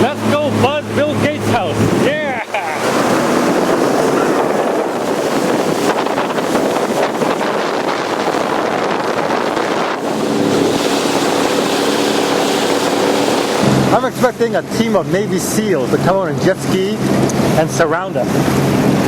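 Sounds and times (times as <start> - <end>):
wind buffeting microphone: 0.0 - 17.6
jet ski engine hum: 0.0 - 19.0
rushing water: 0.0 - 19.0.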